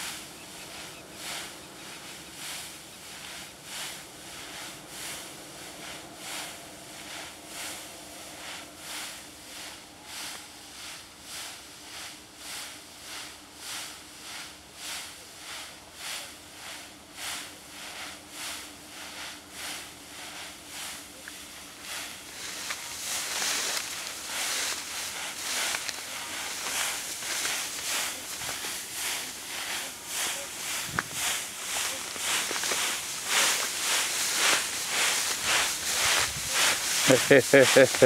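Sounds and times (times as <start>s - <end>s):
wheat swishing against legs: 0.0s - 38.0s.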